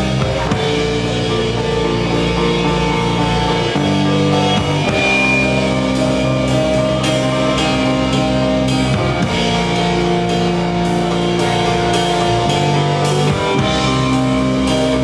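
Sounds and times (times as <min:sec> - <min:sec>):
drums: 0:00.0 - 0:15.0
guitars playing sustained chords: 0:00.0 - 0:15.0.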